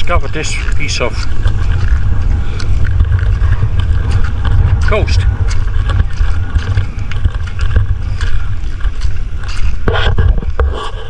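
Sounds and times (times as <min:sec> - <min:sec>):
heavy wind buffeting microphone: 0:00.0 - 0:11.0.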